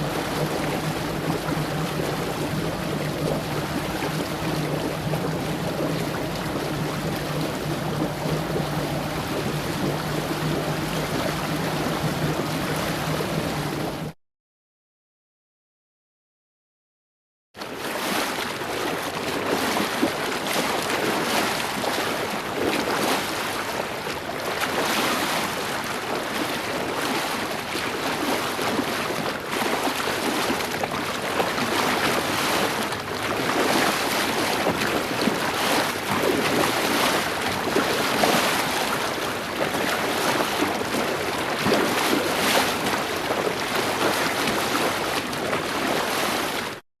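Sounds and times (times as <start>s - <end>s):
water splashing along boat hull: 0.0s - 14.2s, 17.6s - 46.8s
wind: 0.0s - 14.2s, 17.6s - 46.8s.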